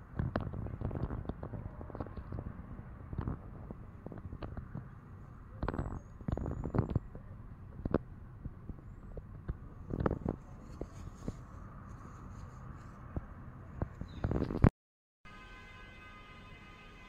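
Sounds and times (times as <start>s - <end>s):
wind rumble on microphone: 0.0s - 14.7s.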